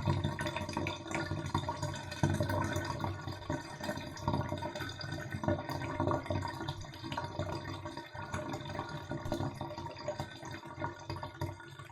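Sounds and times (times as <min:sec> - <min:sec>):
water draining down plughole: 0:00.0 - 0:11.9.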